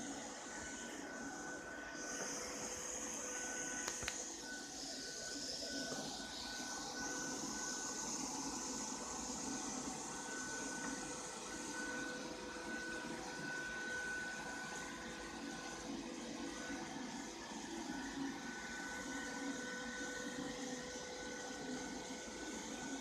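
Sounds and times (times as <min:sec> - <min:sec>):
robot vacuum motor hum: 0:00.0 - 0:23.0
thin high whine: 0:00.0 - 0:23.0.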